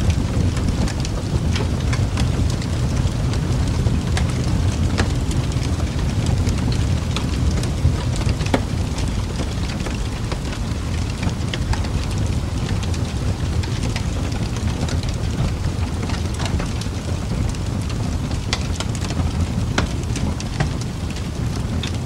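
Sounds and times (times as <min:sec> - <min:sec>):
rain drops ticking: 0:00.0 - 0:22.0
steady rain: 0:00.0 - 0:22.0.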